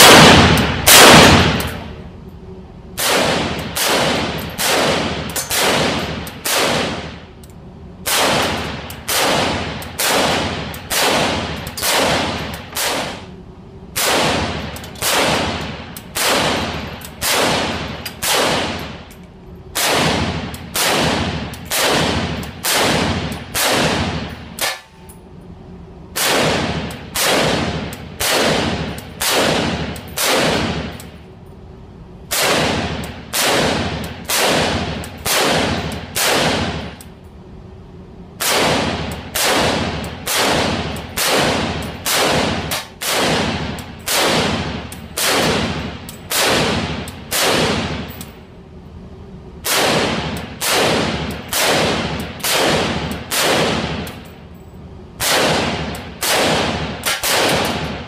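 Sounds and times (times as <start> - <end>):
rifle shots with echo: 0.0 - 2.0, 3.0 - 7.3, 8.0 - 13.4, 14.0 - 19.1, 19.7 - 24.9, 26.1 - 31.0, 32.3 - 37.0, 38.4 - 48.4, 49.6 - 54.4, 55.2 - 58.0.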